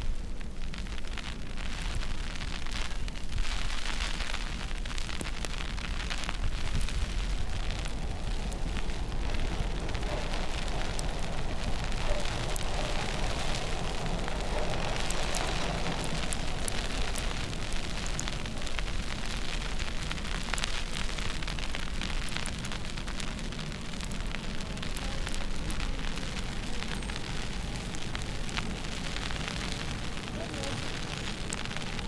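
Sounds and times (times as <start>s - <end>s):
crackling hiss: 0.0s - 32.0s
wind rumbling on microphone: 0.0s - 32.0s
small ticks: 0.7s - 32.0s.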